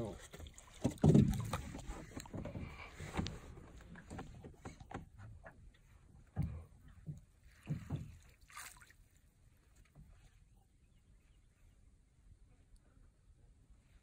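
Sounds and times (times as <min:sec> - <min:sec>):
faint water sounds: 0:00.0 - 0:14.0.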